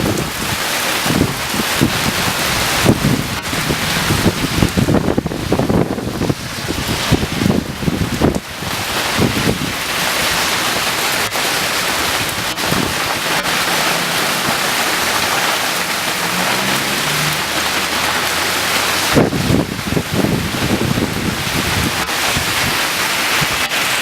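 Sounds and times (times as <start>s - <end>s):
heavy rain and hail: 0.0s - 24.0s
wind buffeting microphone: 0.0s - 24.0s.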